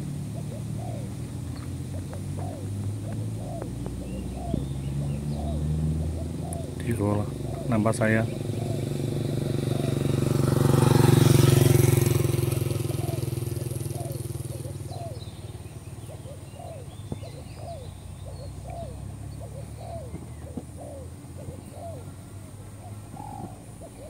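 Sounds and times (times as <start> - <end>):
motorcycle passing by: 0.0 - 24.0.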